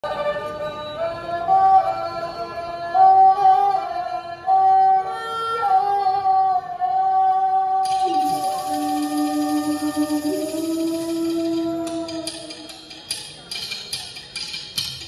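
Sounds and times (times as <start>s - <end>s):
folk orchestra slow melody: 0.1s - 13.0s.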